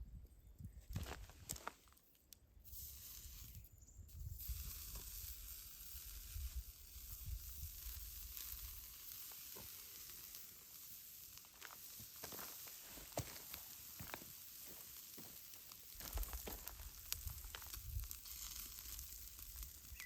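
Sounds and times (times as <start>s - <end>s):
food sizzling in a pan: 2.7s - 20.0s.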